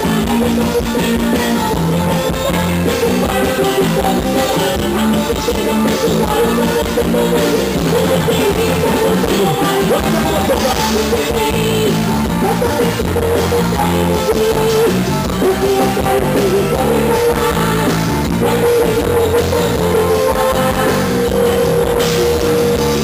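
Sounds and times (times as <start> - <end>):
drum kit beat: 0.0 - 23.0
guitar: 0.0 - 23.0.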